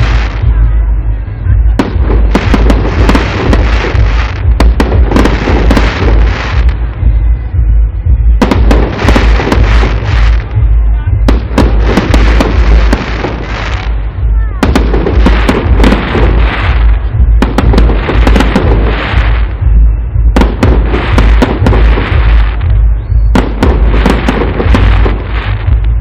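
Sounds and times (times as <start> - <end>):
fireworks bangs: 0.0 - 26.0
fireworks crackling: 0.0 - 26.0
steady low rumble: 0.0 - 26.0.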